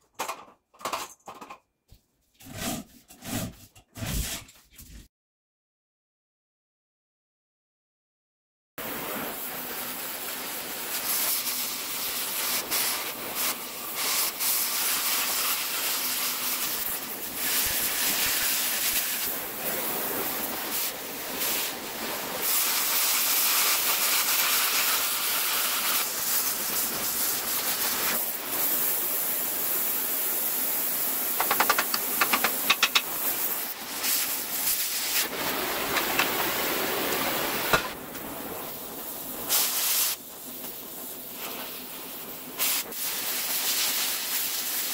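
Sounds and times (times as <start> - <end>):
cutting torch hissing: 8.8 - 44.9.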